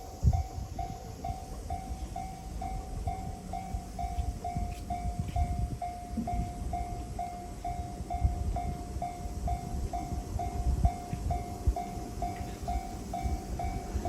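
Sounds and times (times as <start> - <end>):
electric train rumbling: 0.0 - 14.0
level crossing alarm ringing: 0.0 - 14.0.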